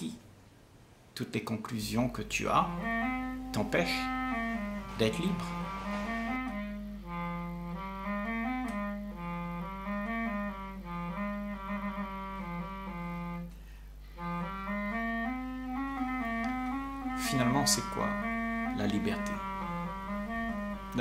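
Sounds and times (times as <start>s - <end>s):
wind instrument melody: 1.9s - 21.0s.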